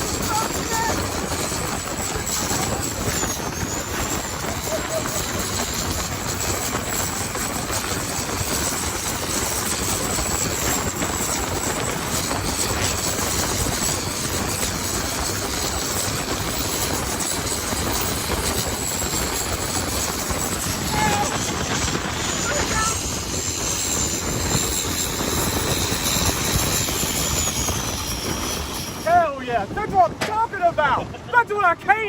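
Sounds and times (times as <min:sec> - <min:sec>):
boat engine running hard: 0:00.0 - 0:31.4.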